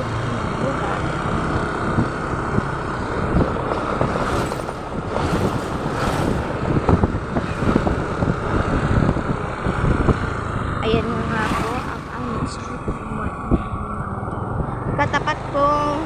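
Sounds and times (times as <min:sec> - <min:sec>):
motorcycle engine: 0:00.0 - 0:16.0
road noise: 0:00.0 - 0:16.0
wind buffeting microphone: 0:00.0 - 0:16.0.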